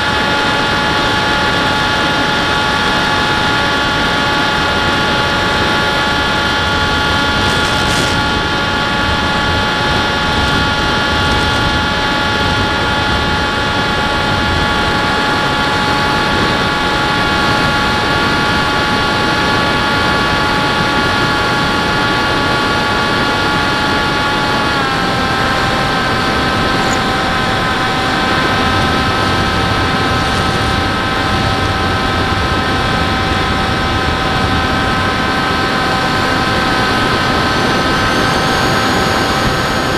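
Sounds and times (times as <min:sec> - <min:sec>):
model airplane motor whine: 0:00.0 - 0:39.9
wind noise: 0:00.0 - 0:39.9.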